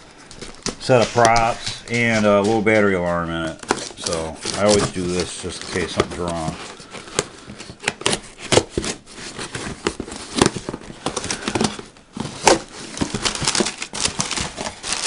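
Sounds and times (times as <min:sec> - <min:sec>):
packing paper crinkling: 0:00.1 - 0:15.0.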